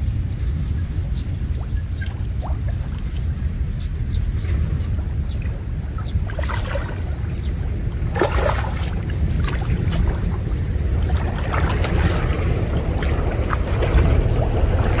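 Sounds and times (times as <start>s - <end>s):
wind rumble on microphone: 0.0s - 15.0s
water sloshing and splashing: 1.2s - 3.6s, 4.4s - 15.0s.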